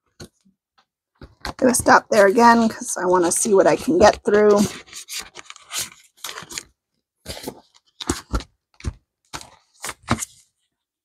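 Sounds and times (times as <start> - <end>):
paper and plastic rustling: 1.2 - 10.6.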